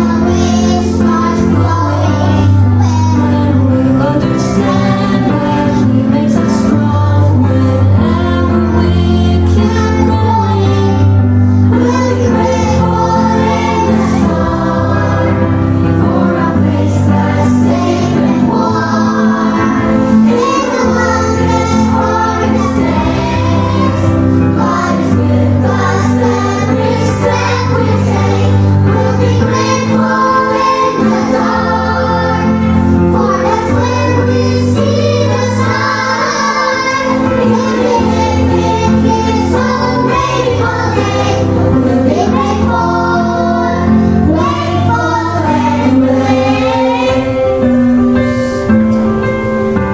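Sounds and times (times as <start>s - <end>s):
children singing together: 0.0s - 49.8s
instrumental accompaniment: 0.0s - 49.9s.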